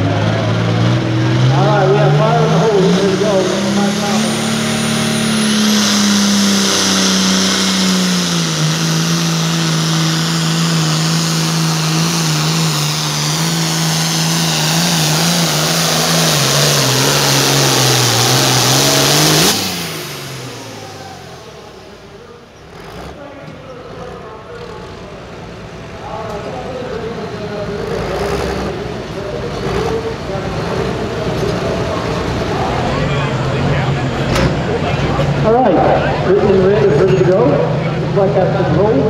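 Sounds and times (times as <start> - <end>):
tractor engine at full throttle: 0.0 - 39.0.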